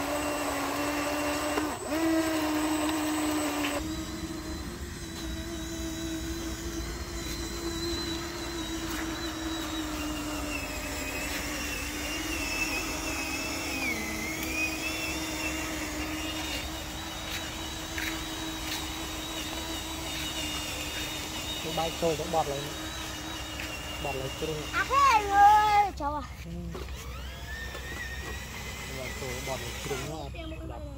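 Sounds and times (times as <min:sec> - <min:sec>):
small electric motor whining: 0:00.0 - 0:30.9.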